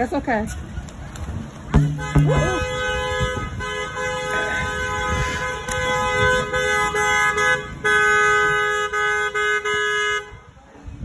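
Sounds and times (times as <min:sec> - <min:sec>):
car horns honking: 0:01.7 - 0:10.5.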